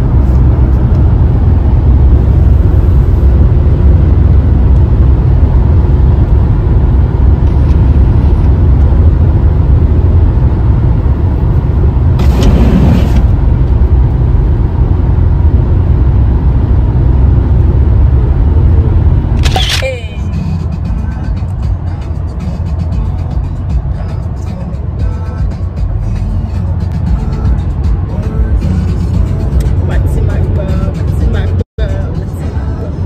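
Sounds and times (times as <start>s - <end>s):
car cabin road noise: 0.0s - 33.0s.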